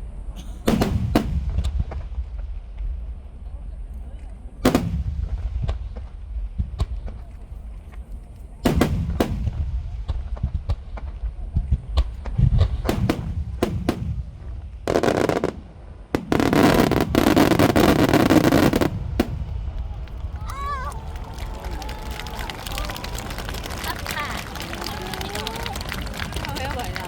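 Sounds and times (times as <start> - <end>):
fireworks bursting: 0.4 - 2.6, 4.6 - 11.2, 11.8 - 27.0.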